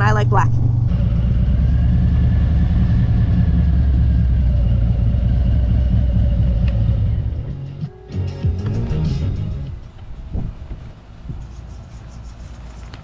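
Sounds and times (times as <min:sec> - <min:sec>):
wind and road noise: 0:00.0 - 0:07.8, 0:08.5 - 0:13.0
motorcycle engine rumbling: 0:00.0 - 0:13.0.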